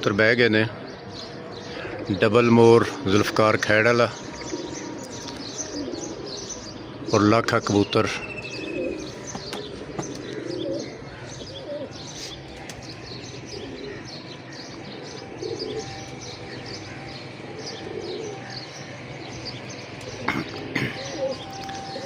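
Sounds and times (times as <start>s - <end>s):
pigeons cooing: 0.0s - 22.0s
small birds chirping: 0.0s - 22.0s.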